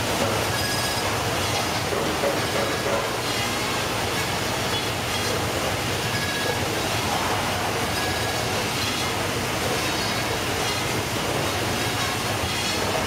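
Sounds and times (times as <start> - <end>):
fish-processing machine clatter: 0.0 - 13.0.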